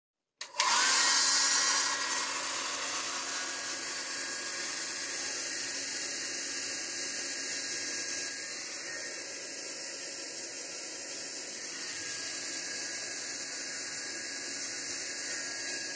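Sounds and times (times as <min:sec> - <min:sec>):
hair dryer running: 0:00.4 - 0:15.9.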